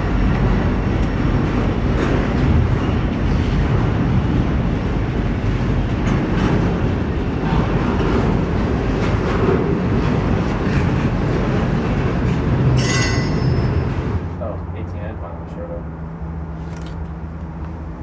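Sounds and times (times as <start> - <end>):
freight train rumbling: 0.0 - 18.0.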